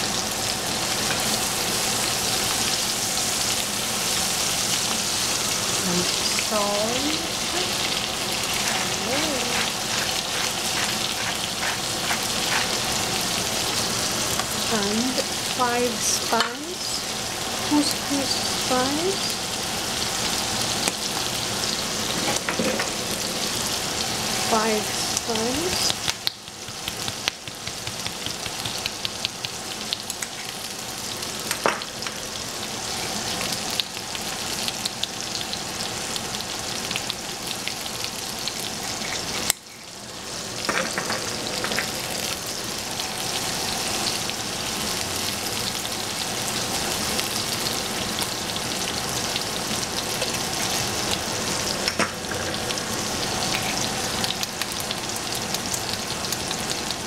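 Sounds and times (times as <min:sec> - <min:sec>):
onions sizzling in a pot: 0:00.0 - 0:57.0.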